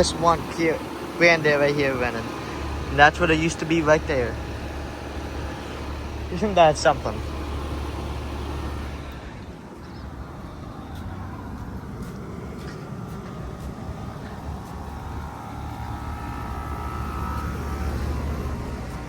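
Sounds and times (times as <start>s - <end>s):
air-conditioner units humming: 0.0s - 19.0s.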